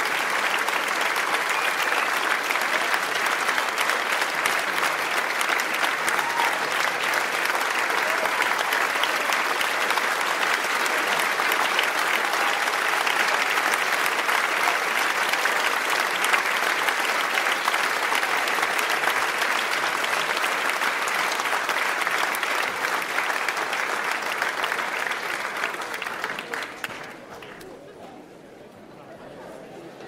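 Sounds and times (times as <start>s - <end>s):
audience applauding: 0.0s - 27.6s.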